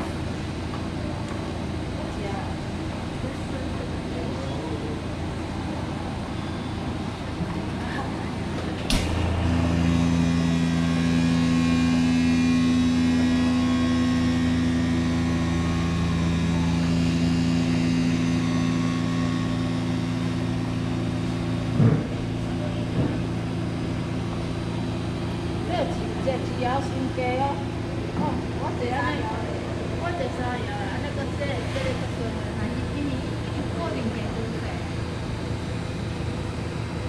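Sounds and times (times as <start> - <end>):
vacuum pump humming: 0.0 - 37.0.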